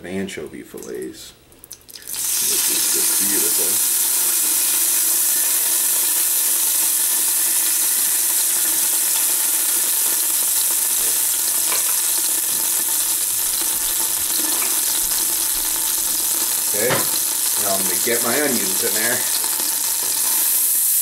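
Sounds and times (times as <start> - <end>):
oil sizzling in a pot: 1.9 - 21.0.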